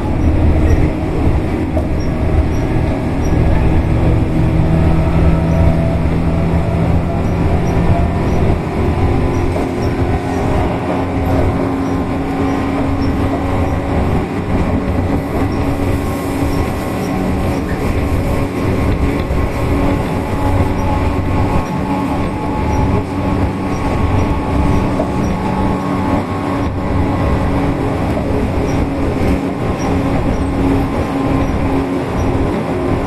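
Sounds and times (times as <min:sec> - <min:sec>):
electric train drive humming: 0:00.0 - 0:33.0
train wheels rumbling on rails: 0:00.0 - 0:33.0.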